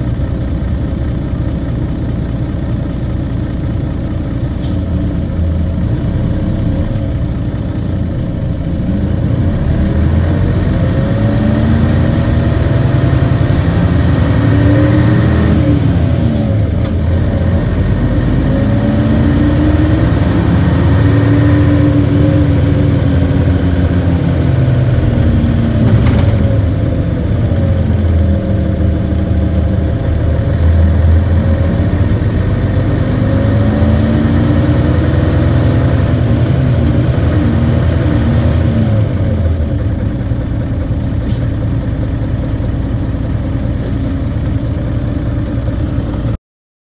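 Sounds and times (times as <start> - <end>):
bus diesel engine accelerating: 0.0 - 46.4.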